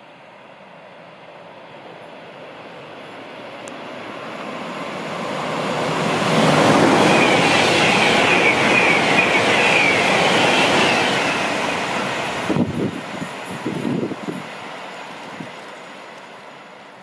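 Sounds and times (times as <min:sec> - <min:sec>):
train wheel and air rush: 0:00.0 - 0:17.0.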